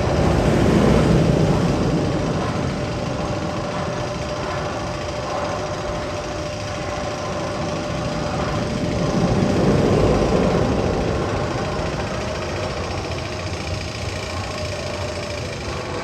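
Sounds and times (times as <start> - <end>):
mechanical rumble and rattle: 0.0 - 16.0.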